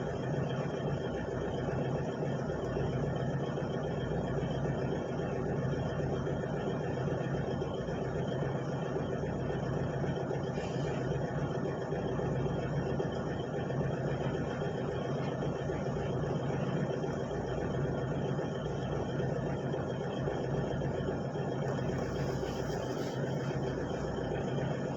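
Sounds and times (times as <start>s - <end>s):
excavator engine running: 0.0s - 24.9s.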